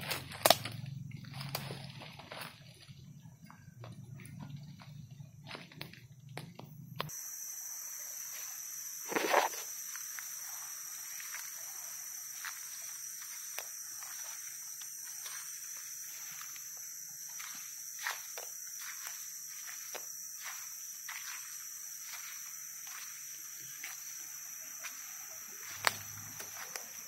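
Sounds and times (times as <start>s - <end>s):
footsteps crunching through dry leaves: 0.0s - 3.0s, 8.2s - 27.0s
high insect drone: 0.0s - 27.0s.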